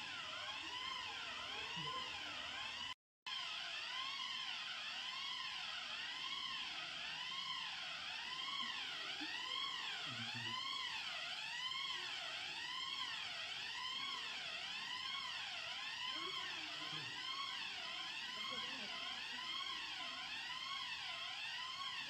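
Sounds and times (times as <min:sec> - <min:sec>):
fire alarm sweeping tone: 0:00.0 - 0:22.0.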